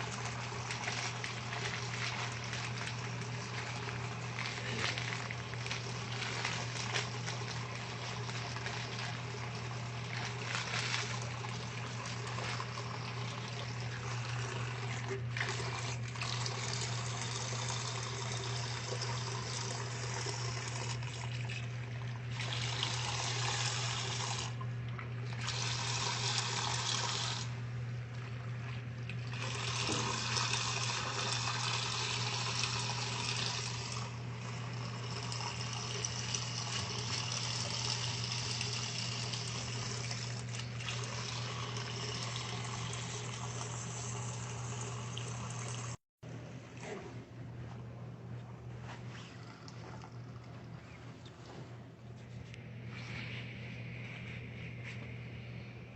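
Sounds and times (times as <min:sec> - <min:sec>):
water splashing into washing machine: 0:00.0 - 0:47.5
steady low hum: 0:00.0 - 0:55.9.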